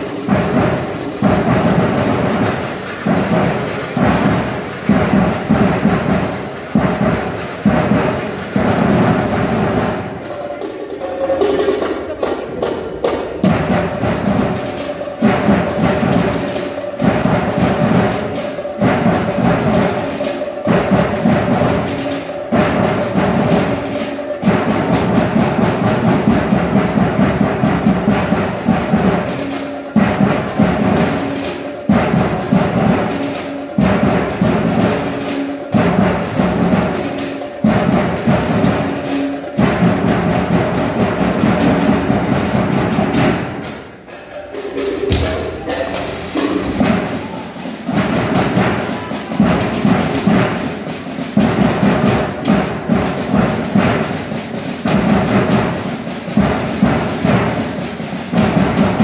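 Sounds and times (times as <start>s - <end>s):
percussion band drumming: 0.0s - 59.0s.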